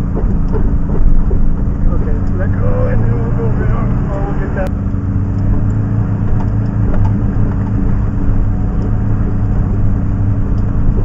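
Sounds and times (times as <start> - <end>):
fire engine motor running: 0.0 - 11.0.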